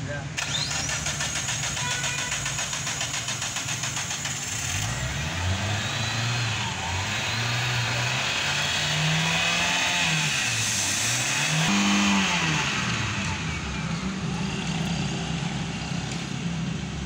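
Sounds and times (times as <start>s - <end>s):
car engine revving: 0.4s - 17.0s.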